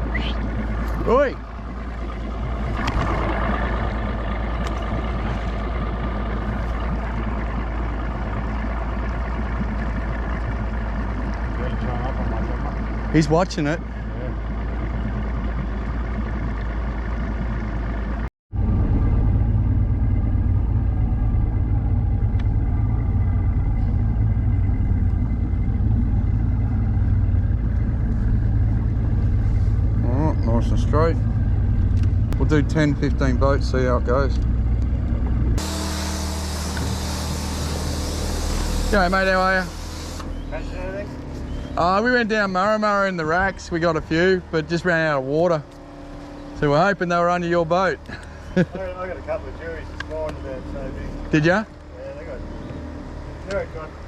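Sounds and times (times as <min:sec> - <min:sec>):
boat engine rumbling: 0:00.0 - 0:54.0
outboard motor running: 0:00.0 - 0:54.0.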